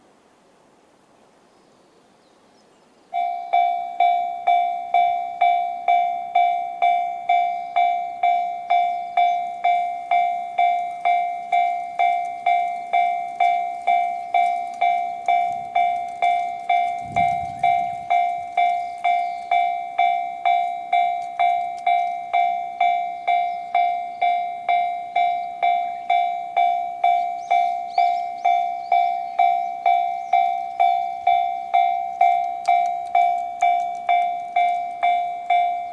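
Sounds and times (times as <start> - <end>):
level crossing bell ringing: 3.2 - 35.9.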